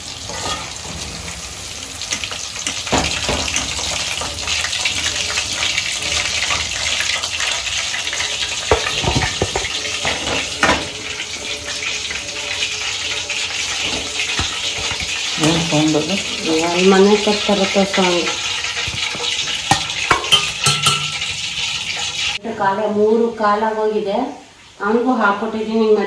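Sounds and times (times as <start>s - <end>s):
meat deep-frying in oil: 0.0s - 22.4s.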